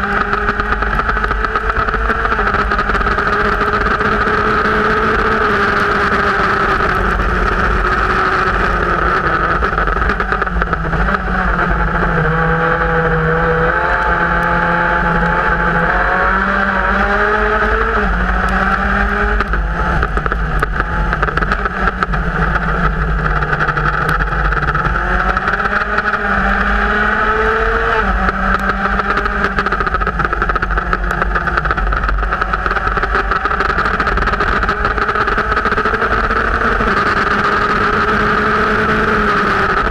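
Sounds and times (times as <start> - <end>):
race car engine shifting gears: 0.0 - 39.9
rush of noise: 0.0 - 39.9.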